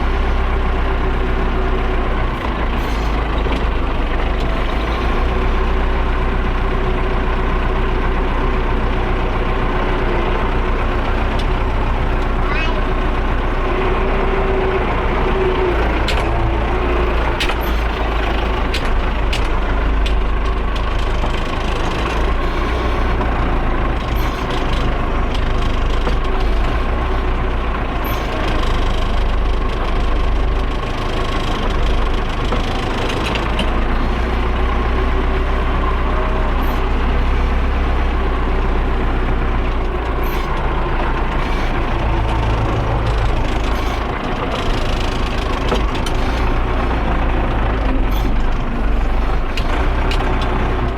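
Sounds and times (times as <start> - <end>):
tractor engine running: 0.0 - 50.9
sharp clicks and rattles: 8.9 - 50.9.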